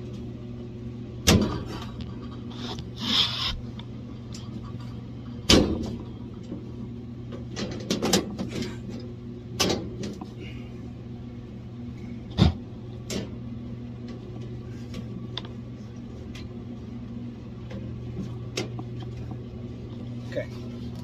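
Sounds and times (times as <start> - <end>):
furnace blower humming: 0.0 - 21.0.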